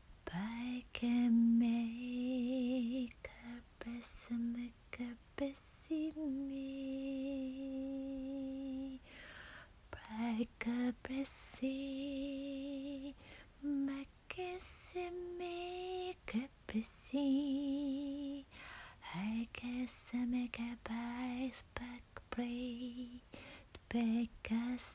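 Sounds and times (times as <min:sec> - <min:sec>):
woman softly singing wordless syllables: 0:00.2 - 0:09.0, 0:09.9 - 0:24.9.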